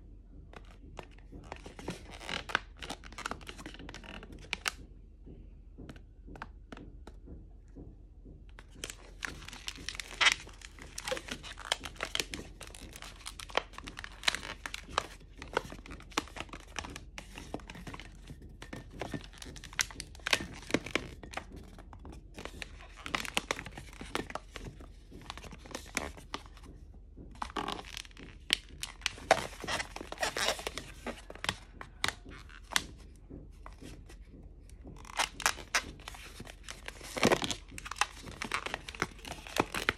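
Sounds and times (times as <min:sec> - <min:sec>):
rubber balloons squeaking: 0:01.4 - 0:04.5, 0:08.7 - 0:33.0, 0:34.7 - 0:39.9.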